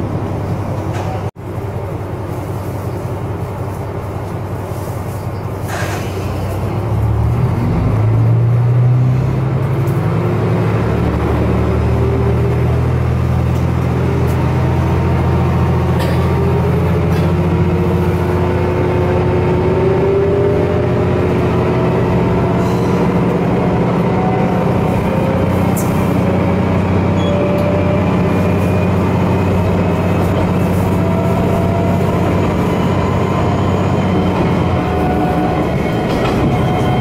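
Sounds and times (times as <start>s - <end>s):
diesel engine drone with whine: 0.0s - 37.0s.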